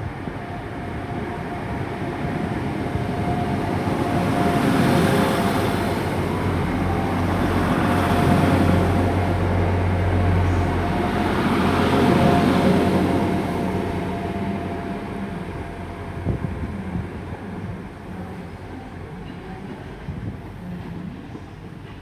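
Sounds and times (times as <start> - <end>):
diesel train engine drone: 0.0 - 22.0.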